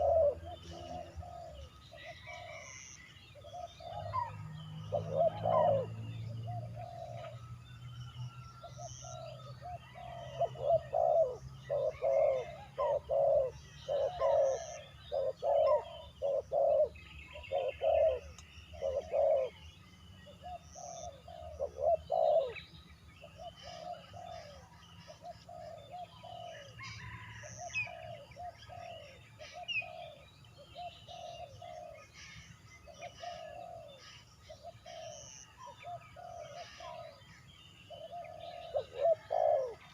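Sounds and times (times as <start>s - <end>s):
dove cooing: 0.0s - 7.4s, 8.6s - 19.6s, 20.2s - 22.6s, 23.2s - 39.9s
small birds chirping: 0.0s - 39.9s.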